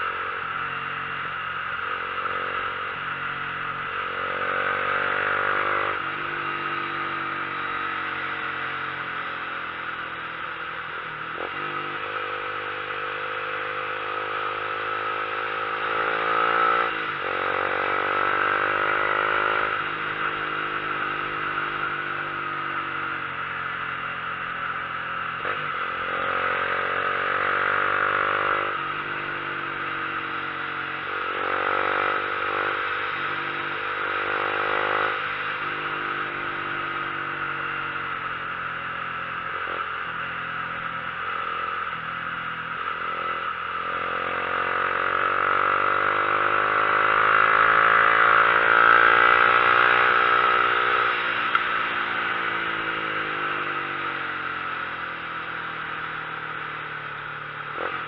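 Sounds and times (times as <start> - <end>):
vehicle engine accelerating: 0.0 - 56.9.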